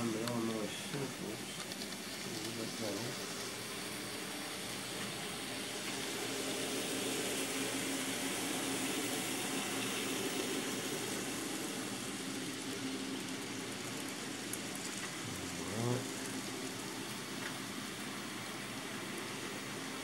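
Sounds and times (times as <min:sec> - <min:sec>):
model train rolling on track: 0:00.0 - 0:20.0.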